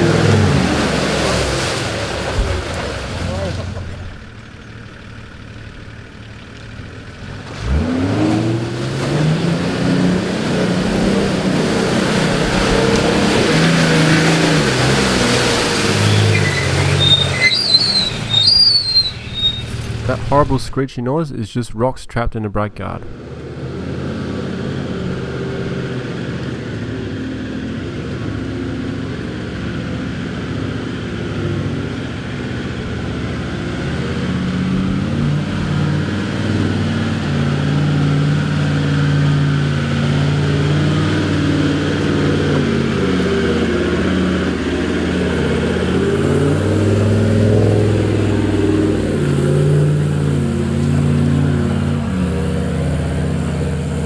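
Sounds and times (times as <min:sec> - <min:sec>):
truck engines revving in mud: 0:00.0 - 0:20.8, 0:23.1 - 0:54.0.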